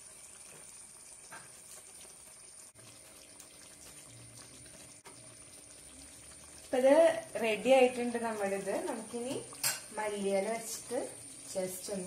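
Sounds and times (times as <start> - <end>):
curry simmering in pot: 0.0 - 12.0.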